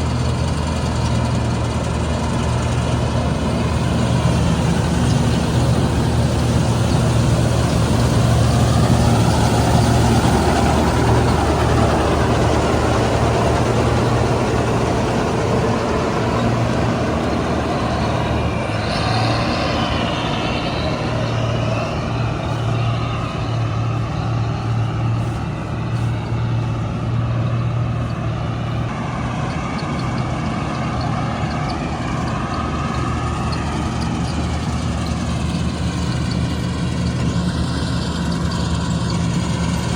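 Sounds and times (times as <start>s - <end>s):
diesel engine running: 0.0s - 39.9s
machine whine: 0.0s - 39.9s.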